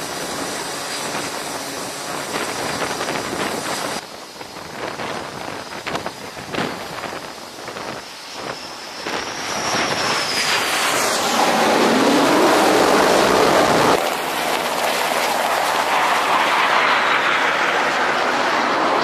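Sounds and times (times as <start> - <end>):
helicopter turbine and rotor: 0.0 - 19.0
jet aircraft flying past: 0.0 - 19.0.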